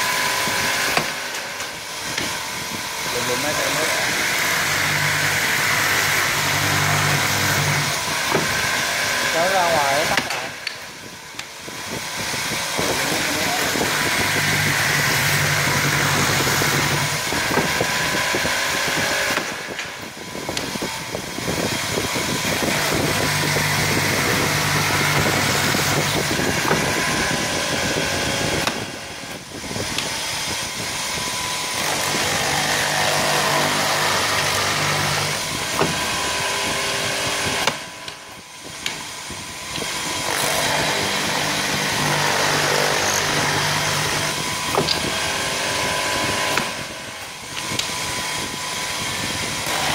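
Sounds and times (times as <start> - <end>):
boring machine drilling wood: 0.0 - 49.9.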